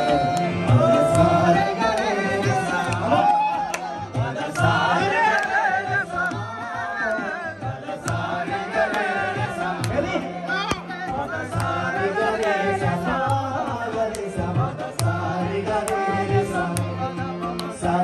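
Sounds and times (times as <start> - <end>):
harmonium: 0.0 - 18.0
man singing into a microphone: 0.0 - 18.0.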